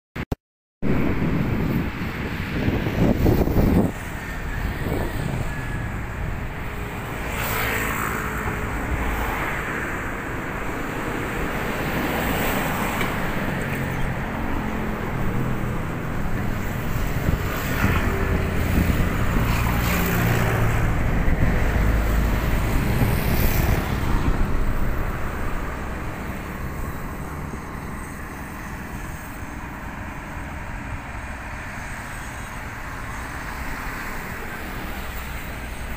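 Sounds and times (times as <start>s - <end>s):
road traffic passing: 0.8s - 35.9s.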